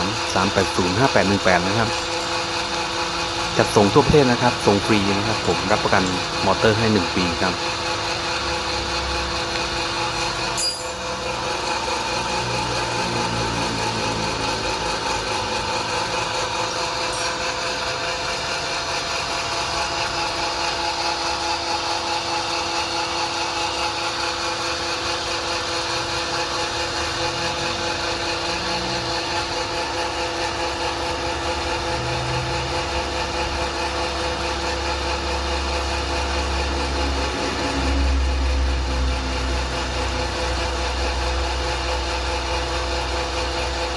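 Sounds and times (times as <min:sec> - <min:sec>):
pellet mill motor humming: 0:00.0 - 0:43.9.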